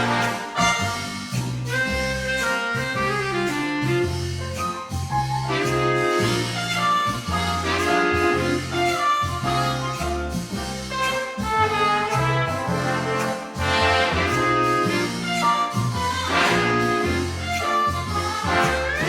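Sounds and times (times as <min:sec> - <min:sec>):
big band jazz: 0:00.0 - 0:19.0.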